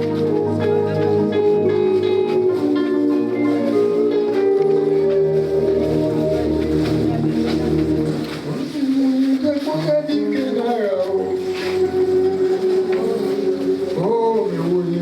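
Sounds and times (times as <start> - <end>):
slow instrumental church music: 0.0 - 15.0.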